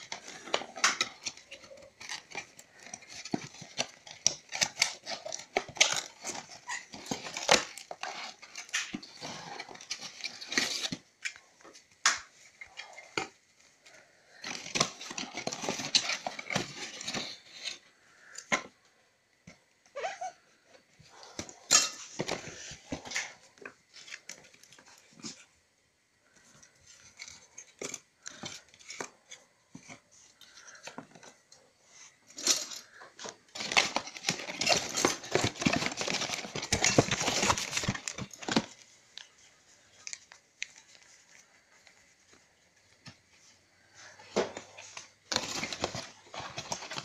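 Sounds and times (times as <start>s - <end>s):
packing paper and plastic rustling: 0.0s - 25.6s, 26.2s - 47.0s.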